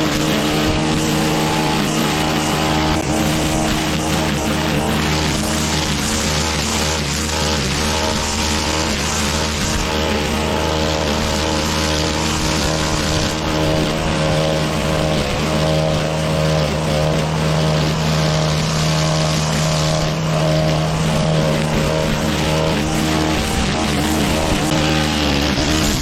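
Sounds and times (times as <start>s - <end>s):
mower engine cutting grass: 0.0s - 26.0s.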